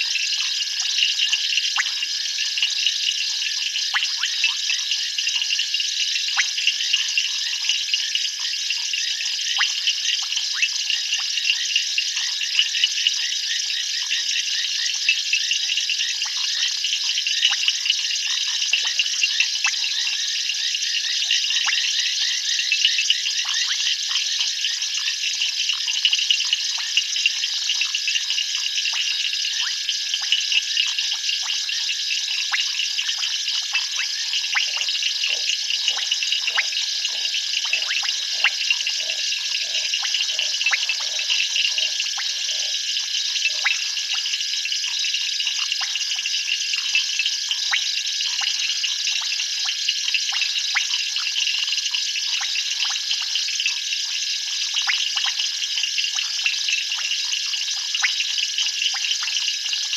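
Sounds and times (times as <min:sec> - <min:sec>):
frogs and insects trilling: 0:00.0 - 0:59.9.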